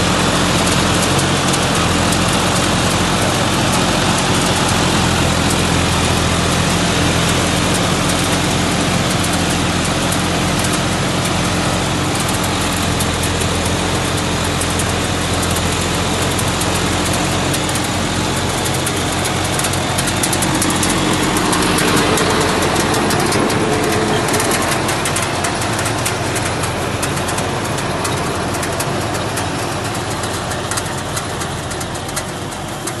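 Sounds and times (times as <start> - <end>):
tractor diesel engines drone: 0.0 - 33.0
clatter of fine clicks: 0.5 - 33.0.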